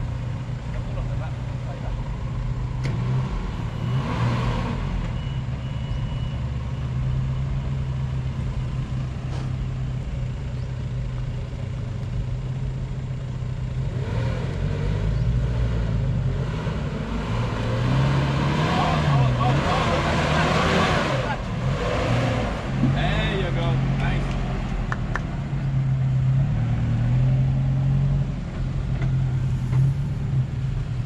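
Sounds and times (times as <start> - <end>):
suv engine running low revs: 0.0 - 31.0.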